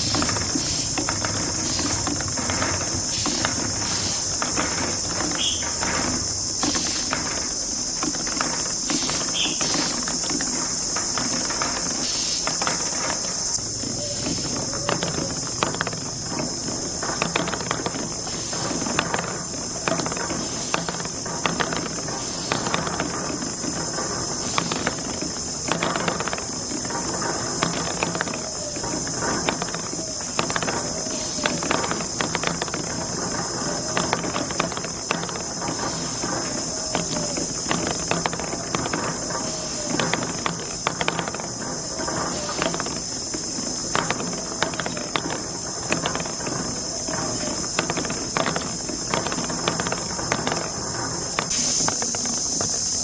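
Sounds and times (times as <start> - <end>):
marbles clacking on plastic track: 0.0 - 53.0
steady high hiss: 0.0 - 53.0.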